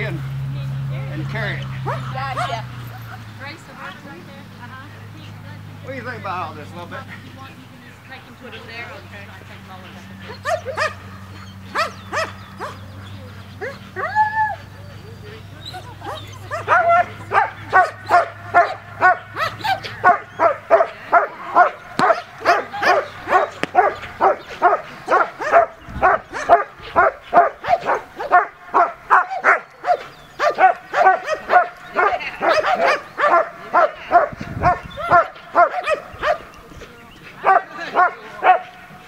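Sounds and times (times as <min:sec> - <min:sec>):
dogs barking rapidly: 0:01.4 - 0:03.3, 0:08.4 - 0:36.6, 0:37.2 - 0:39.0.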